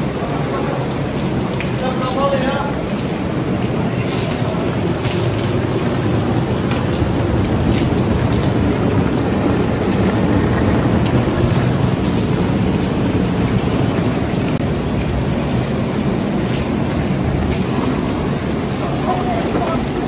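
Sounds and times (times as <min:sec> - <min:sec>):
heavy rain pouring: 0:00.0 - 0:20.0
deep rumble: 0:02.7 - 0:20.0.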